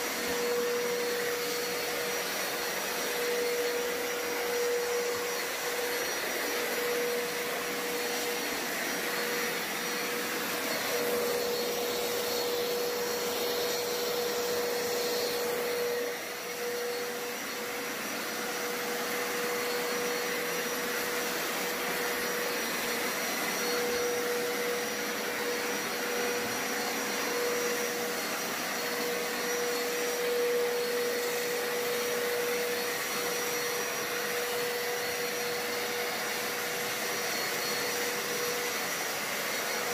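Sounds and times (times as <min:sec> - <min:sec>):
brushes scrubbing floor: 0:00.0 - 0:39.9
carpet cleaner motor drone: 0:00.0 - 0:39.9.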